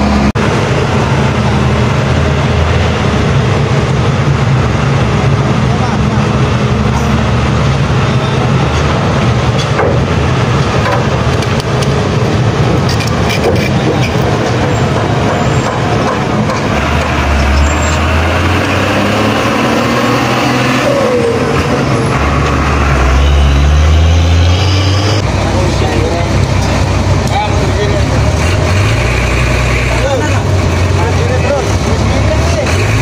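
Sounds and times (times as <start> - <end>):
truck diesel engine rumble: 0.0 - 33.0.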